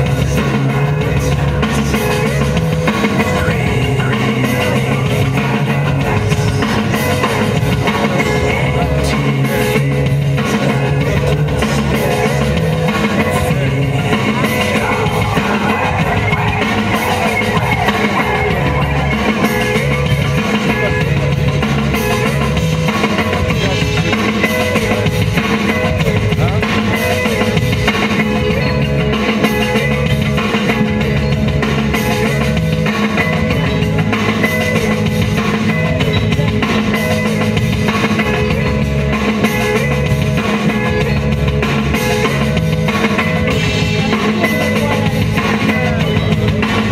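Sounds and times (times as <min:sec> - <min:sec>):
rock music with drums and guitar: 0:00.0 - 0:46.9.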